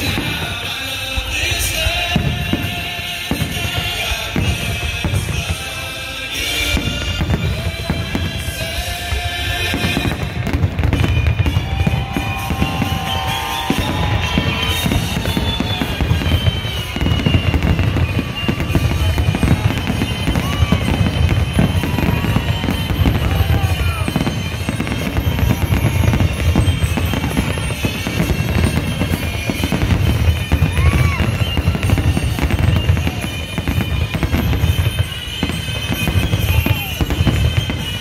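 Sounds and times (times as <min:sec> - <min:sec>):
firework whistles: 0:00.0 - 0:38.0
fireworks booming: 0:00.0 - 0:38.0.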